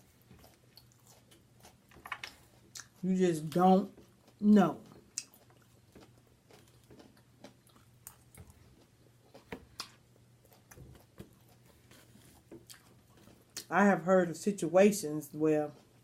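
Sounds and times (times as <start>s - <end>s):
person chewing food: 0.0s - 13.7s, 15.6s - 16.0s.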